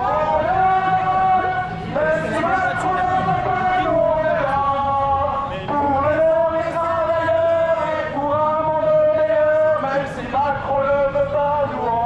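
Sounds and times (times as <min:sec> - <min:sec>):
protest chanting voices: 0:00.0 - 0:12.0.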